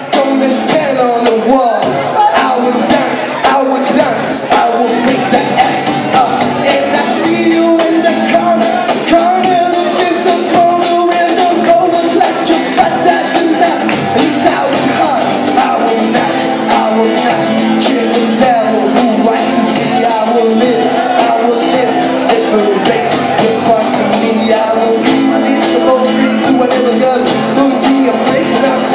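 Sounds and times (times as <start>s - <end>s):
guitar: 0.0s - 28.9s
person singing: 0.0s - 28.9s.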